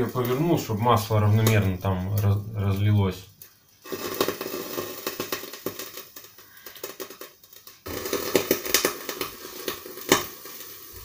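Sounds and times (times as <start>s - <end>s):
eggplant frying in oil: 0.0s - 11.0s.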